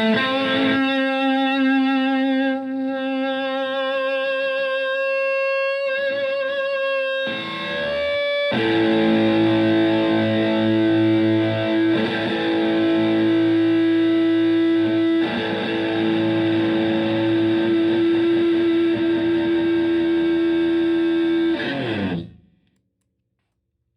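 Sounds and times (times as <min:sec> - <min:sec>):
distorted electric guitar notes: 0:00.0 - 0:22.5.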